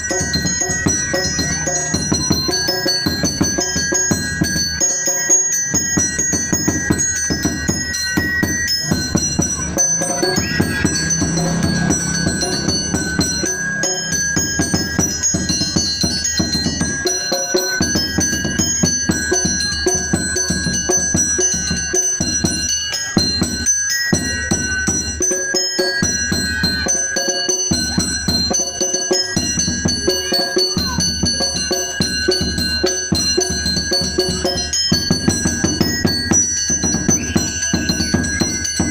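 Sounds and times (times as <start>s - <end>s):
chiming metallophone: 0.0s - 38.9s
steady drum beat: 0.0s - 38.9s.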